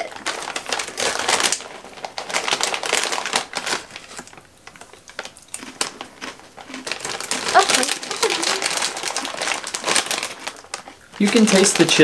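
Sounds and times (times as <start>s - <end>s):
chips crunching: 0.0s - 12.0s
plastic snack bag crinkling: 0.0s - 12.0s.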